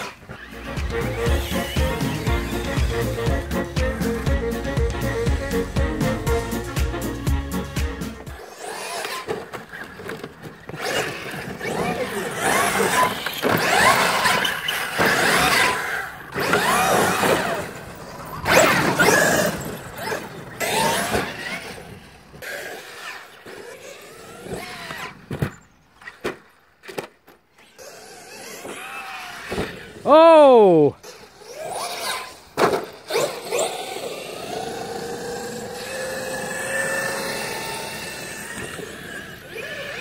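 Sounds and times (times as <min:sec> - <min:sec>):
toy car motors whining: 0:00.0 - 0:30.4, 0:31.0 - 0:40.0.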